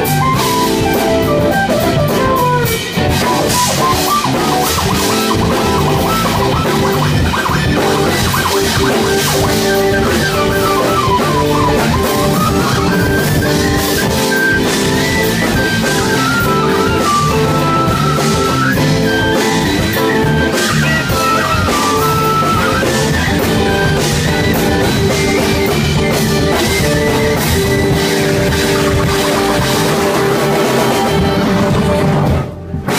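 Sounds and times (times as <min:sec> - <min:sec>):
keyboard melody: 0:00.0 - 0:32.9
live rock band playing: 0:00.0 - 0:32.9.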